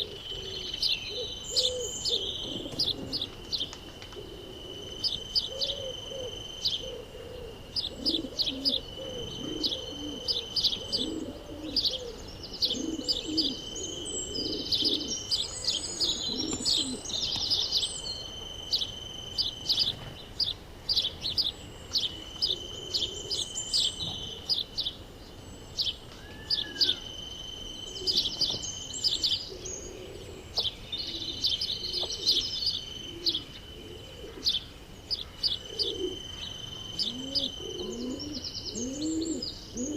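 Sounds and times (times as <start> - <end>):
doves cooing: 0.0 - 25.1, 25.9 - 39.9
birds chirping: 0.0 - 39.9.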